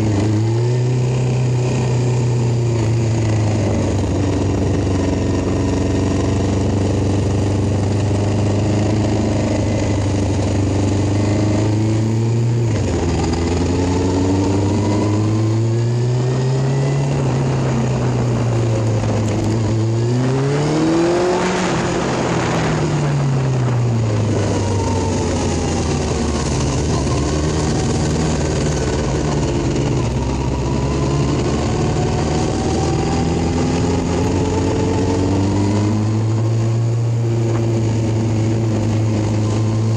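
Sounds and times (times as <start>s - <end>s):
motorcycle engine running: 0.0s - 39.9s
rush of noise: 0.0s - 39.9s.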